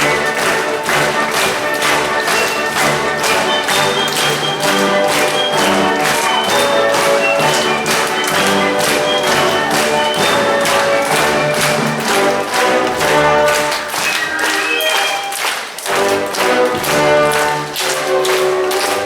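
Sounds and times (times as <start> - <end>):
orchestral ballet music: 0.0 - 19.0.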